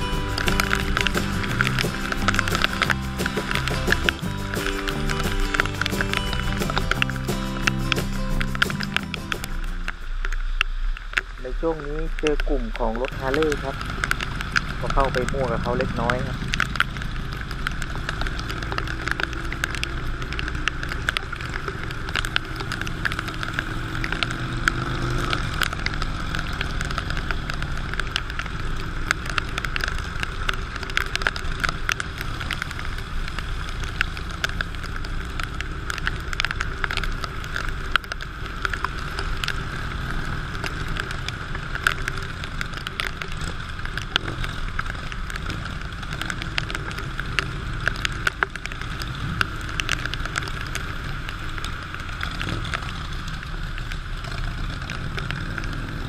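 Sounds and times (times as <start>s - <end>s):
motorcycle engine running: 0.0s - 10.2s, 12.2s - 56.0s
raindrops ticking: 0.0s - 56.0s
wind and road noise: 0.0s - 56.0s.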